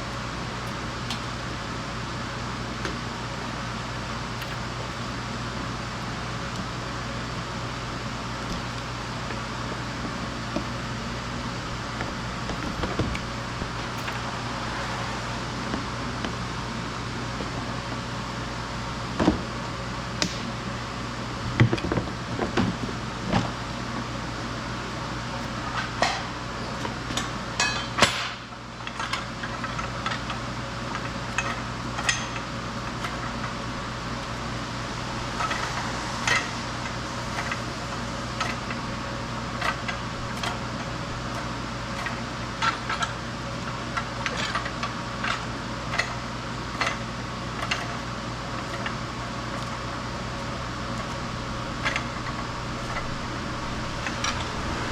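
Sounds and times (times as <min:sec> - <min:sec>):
workshop fan humming: 0:00.0 - 0:54.9.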